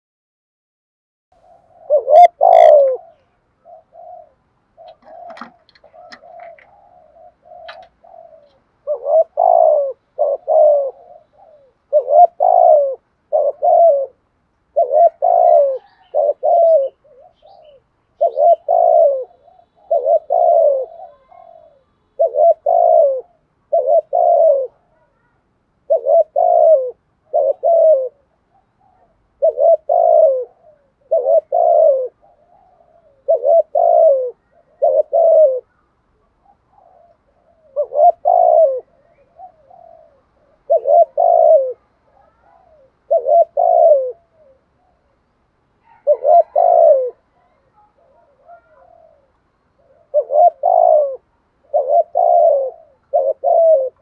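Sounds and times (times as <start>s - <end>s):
dove cooing: 1.4s - 45.2s, 45.8s - 54.0s.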